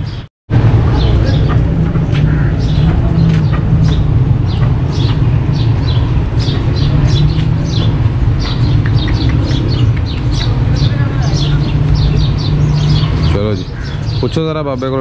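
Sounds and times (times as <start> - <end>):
loud low rumble: 0.0 - 13.9
small birds chirping: 0.0 - 15.0.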